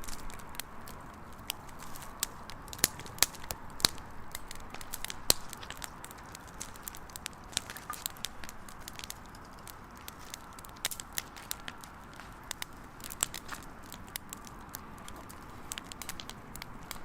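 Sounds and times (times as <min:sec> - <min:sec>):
campfire crackling and popping: 0:00.0 - 0:17.0
soft steady hiss: 0:00.0 - 0:17.0.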